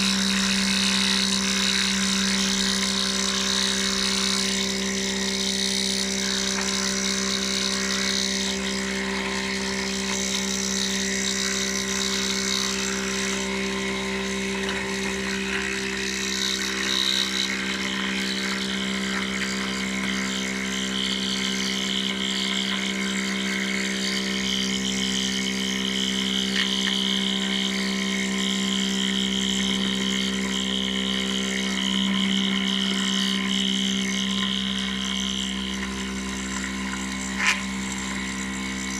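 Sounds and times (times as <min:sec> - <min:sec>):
high machine whine: 0:00.0 - 0:38.9
milling machine hum: 0:00.0 - 0:38.9.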